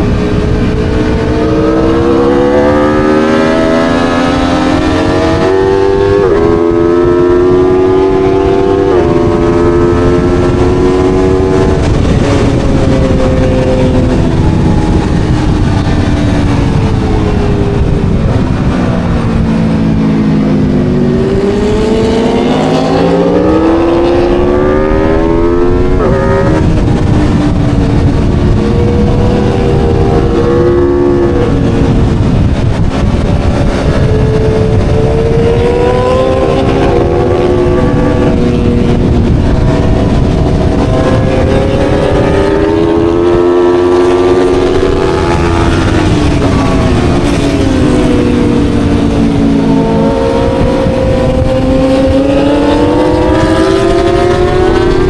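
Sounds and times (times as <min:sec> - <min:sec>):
motorcycle engine revving: 0:00.0 - 0:55.0
wind rushing: 0:00.0 - 0:55.0.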